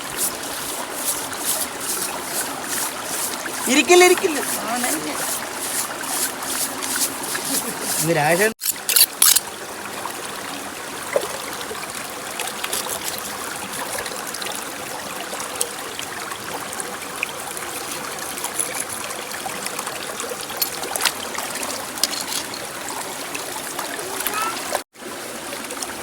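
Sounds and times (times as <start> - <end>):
water running and trickling: 0.0 - 26.0.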